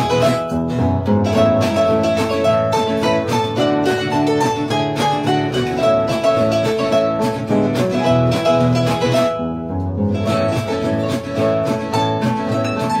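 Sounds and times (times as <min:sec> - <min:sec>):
plucked harp melody: 0:00.0 - 0:13.0
strummed acoustic guitar: 0:00.0 - 0:13.0.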